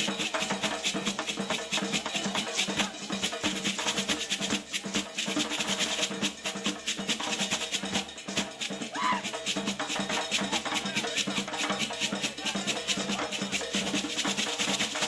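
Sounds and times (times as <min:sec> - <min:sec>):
fast hand drumming: 0:00.0 - 0:15.0.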